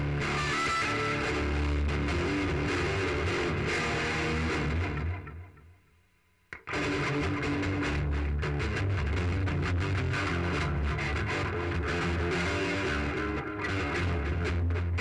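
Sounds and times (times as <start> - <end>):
electric guitar riff: 0.0 - 5.8, 6.5 - 15.0.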